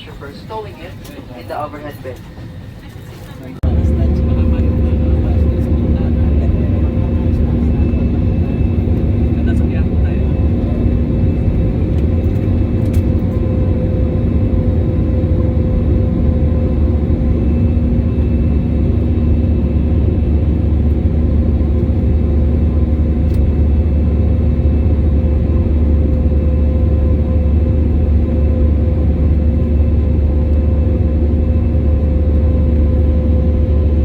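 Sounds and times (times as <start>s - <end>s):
airliner engines and rushing air: 0.0s - 34.0s
constant hum: 0.0s - 34.0s.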